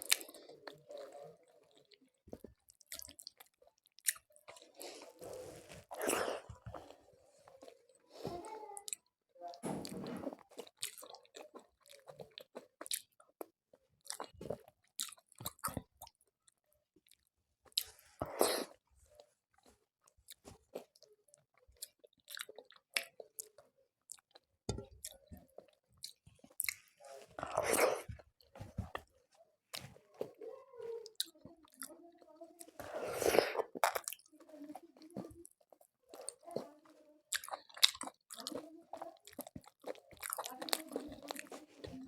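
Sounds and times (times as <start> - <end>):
loud chewing and crunching: 0.0 - 8.0, 8.8 - 16.2, 19.6 - 30.4, 31.0 - 42.0.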